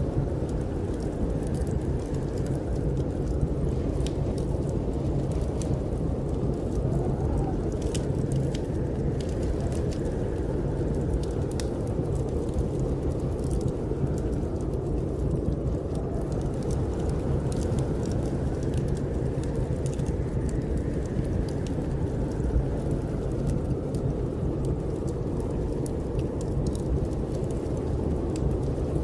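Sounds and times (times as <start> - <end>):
wind blowing: 0.0 - 29.0
wood fire crackling: 0.0 - 29.0.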